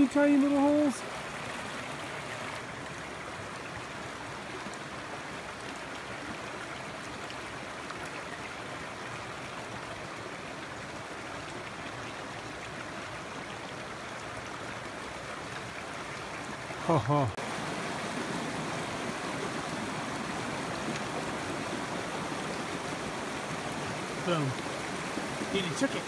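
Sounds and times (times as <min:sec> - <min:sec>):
creek running over rocks: 0:00.0 - 0:26.0.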